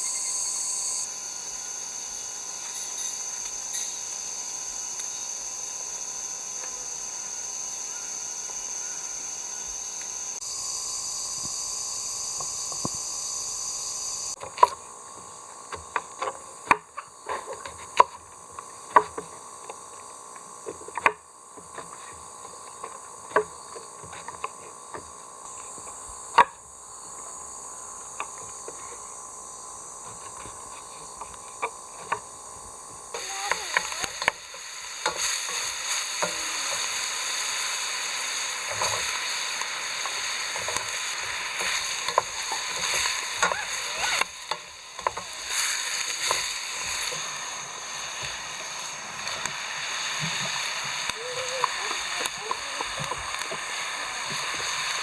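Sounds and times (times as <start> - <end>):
high insect chorus: 0.0 - 55.0.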